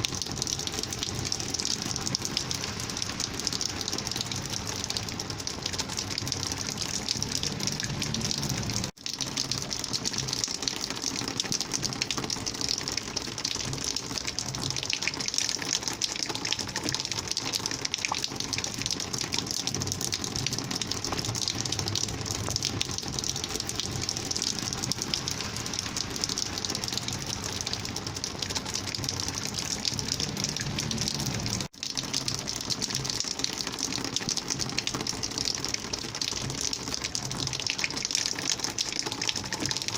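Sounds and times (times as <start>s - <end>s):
rainwater gushing: 0.0s - 39.9s.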